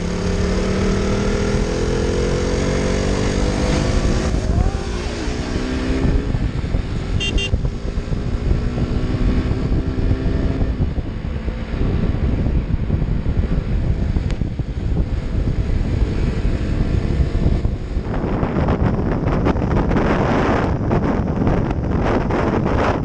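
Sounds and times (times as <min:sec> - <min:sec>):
motorcycle engine rumble: 0:00.0 - 0:23.0
wind buffeting microphone: 0:00.0 - 0:23.0.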